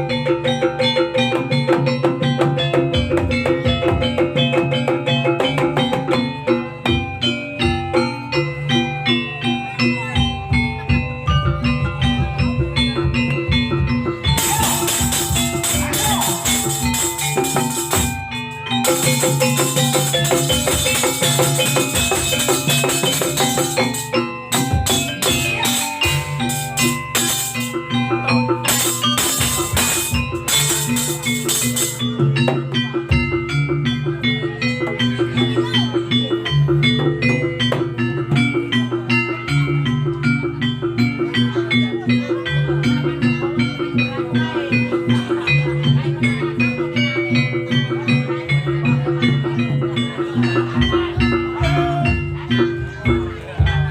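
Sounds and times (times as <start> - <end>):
gamelan music: 0.0 - 53.9.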